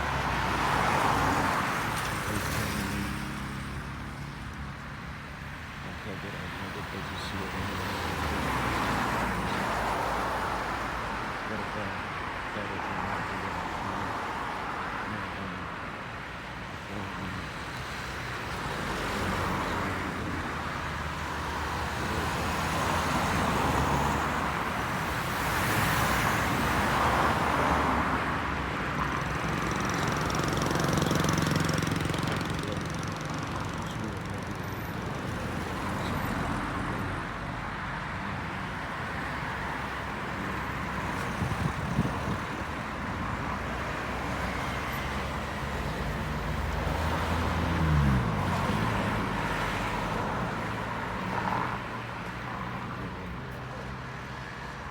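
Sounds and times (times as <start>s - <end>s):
vehicles passing: 0.0s - 54.9s.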